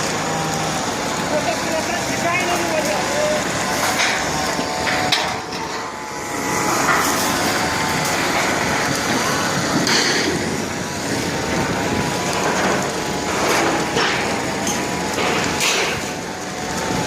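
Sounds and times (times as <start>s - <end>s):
bonfire rushing: 0.0s - 17.0s
fire crackles and pops: 0.0s - 17.0s.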